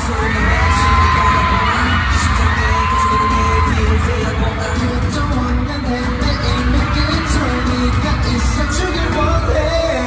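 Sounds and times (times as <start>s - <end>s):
crowd screaming and cheering: 0.0s - 10.0s
pop music with heavy bass: 0.0s - 10.0s.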